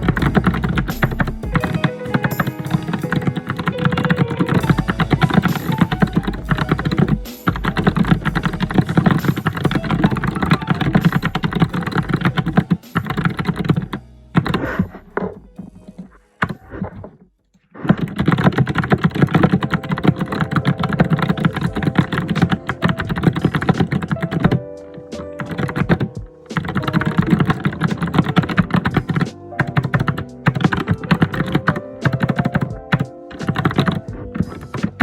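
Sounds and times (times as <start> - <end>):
fast typing on computer keyboard: 0.0 - 14.8, 17.9 - 24.6, 25.4 - 35.0.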